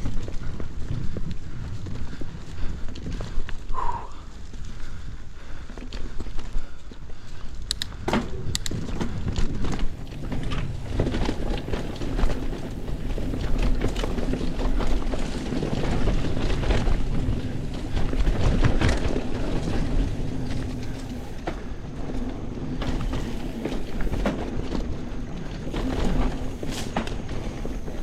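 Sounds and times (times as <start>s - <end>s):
bike clicks and rattles: 0.0s - 28.0s
bike tyres rumbling on dirt: 0.0s - 28.0s.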